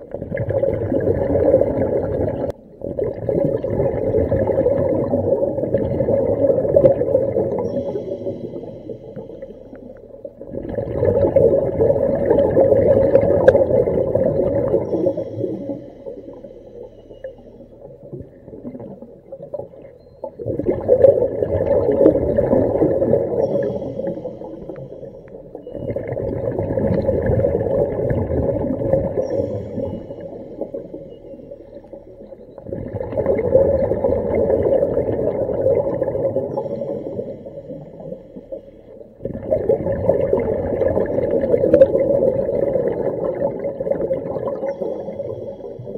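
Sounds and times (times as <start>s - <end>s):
exhaled bubbles underwater: 0.0s - 45.9s
quiet inhalations through regulator: 4.3s - 45.9s.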